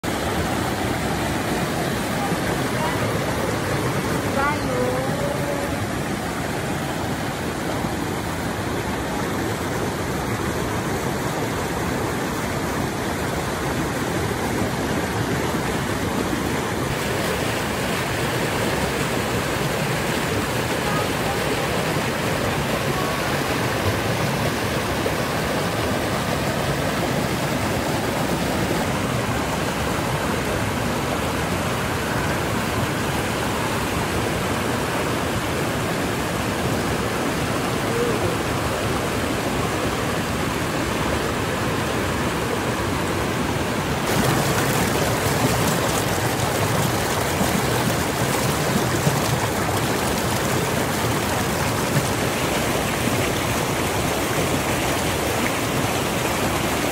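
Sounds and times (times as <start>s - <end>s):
creek rushing over boulders: 0.0s - 56.9s.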